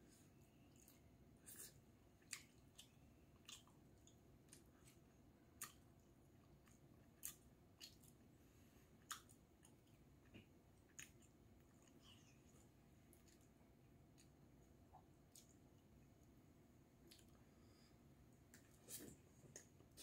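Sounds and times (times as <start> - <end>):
quiet room hum: 0.0 - 20.0
soft eating clicks and smacks: 0.4 - 8.3, 8.9 - 20.0.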